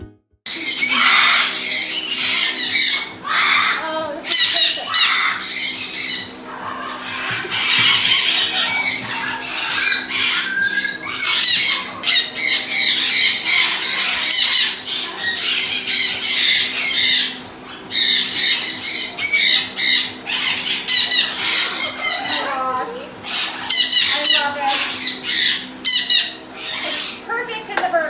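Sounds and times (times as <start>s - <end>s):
parrots squawking: 0.5s - 27.6s.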